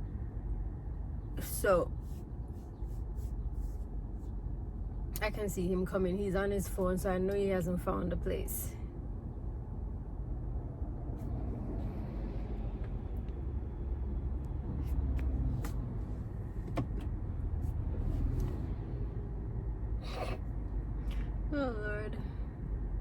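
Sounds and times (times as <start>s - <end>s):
low rumble inside car: 0.0s - 23.0s.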